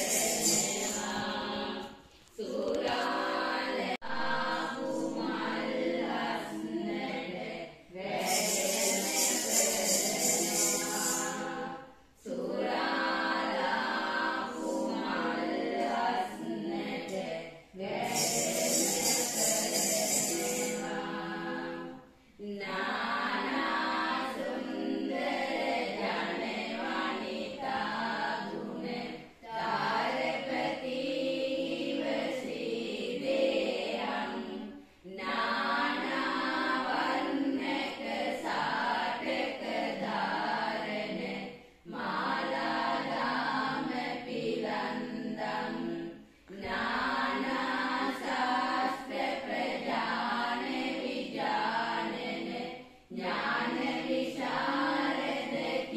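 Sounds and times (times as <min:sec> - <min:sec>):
women chanting together: 0:00.0 - 0:55.9.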